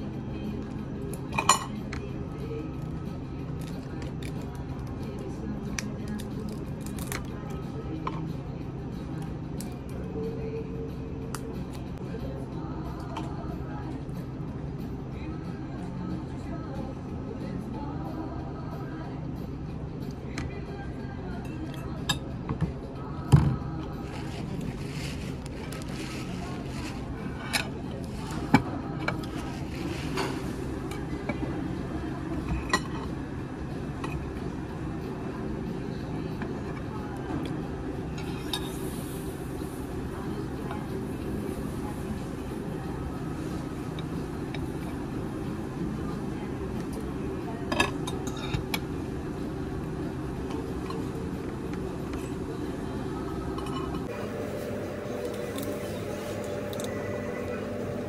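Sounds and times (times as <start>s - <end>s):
restaurant background hum: 0.0s - 58.0s.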